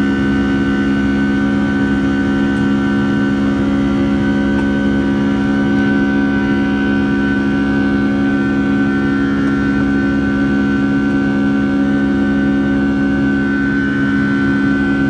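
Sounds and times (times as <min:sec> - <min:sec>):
jet engines heard from cabin: 0:00.0 - 0:15.0.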